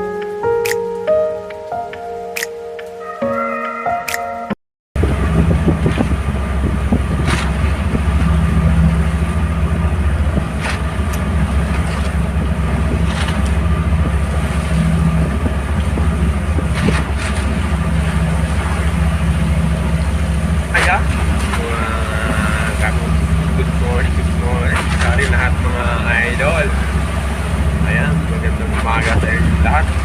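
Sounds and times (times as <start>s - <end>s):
boat engine running: 5.0s - 30.0s.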